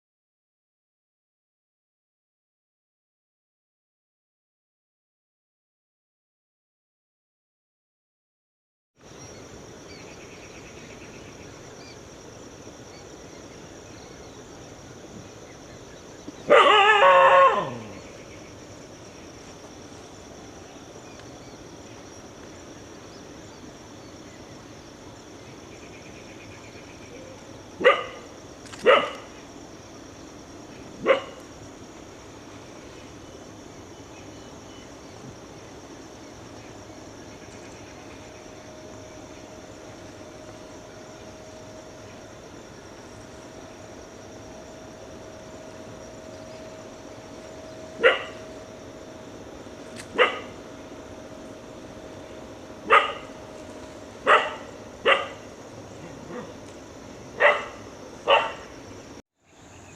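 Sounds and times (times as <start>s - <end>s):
steady hiss: 9.0s - 16.7s, 17.4s - 59.9s.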